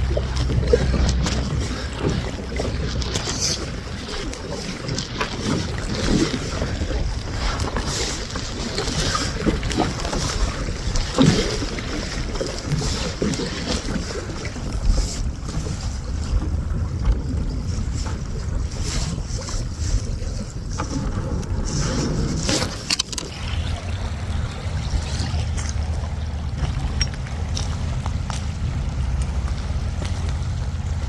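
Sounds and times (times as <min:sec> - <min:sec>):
paddle strokes splashing water: 0:00.0 - 0:31.0
wind buffeting microphone: 0:00.0 - 0:31.0.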